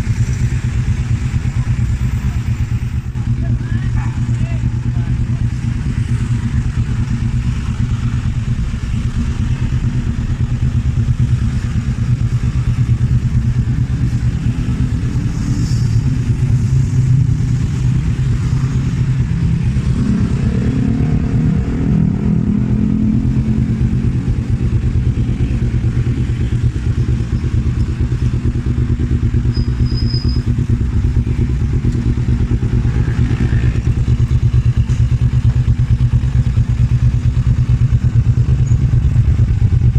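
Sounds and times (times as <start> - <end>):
motorcycle engine idling: 0.0 - 19.9, 21.9 - 39.9.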